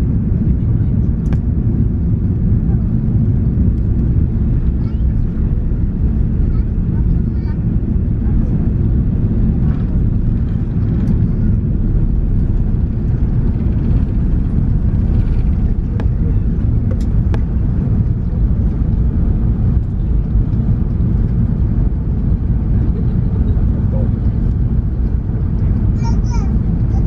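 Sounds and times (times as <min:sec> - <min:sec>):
aircraft engines rumbling: 0:00.0 - 0:27.0.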